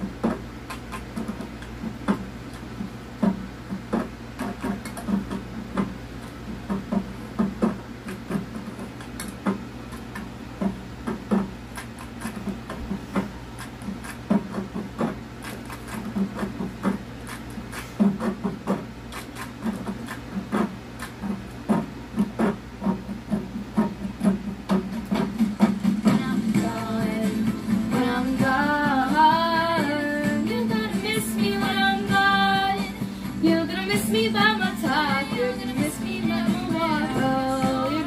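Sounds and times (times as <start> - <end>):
constant low hum: 0.0 - 38.0.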